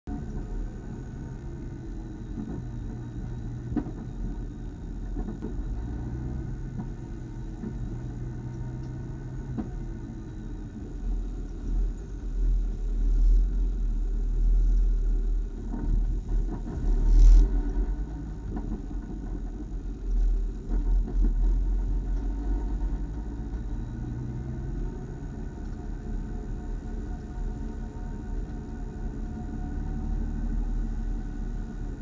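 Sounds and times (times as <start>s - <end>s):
race car engine rumble: 0.0s - 32.0s.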